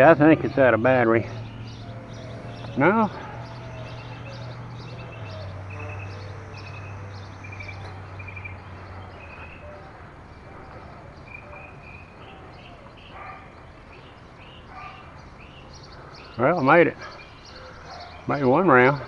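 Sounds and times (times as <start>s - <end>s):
birds chirping trills: 0.0s - 19.0s.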